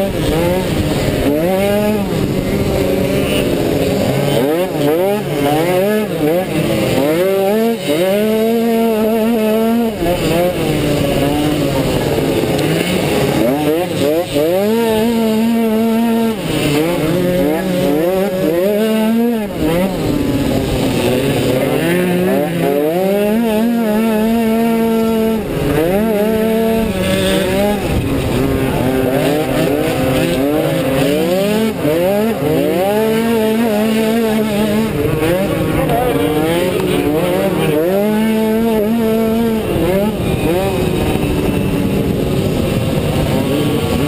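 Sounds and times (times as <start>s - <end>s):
other scooters running: 0.0s - 44.0s
scooter engine racing: 0.0s - 44.0s.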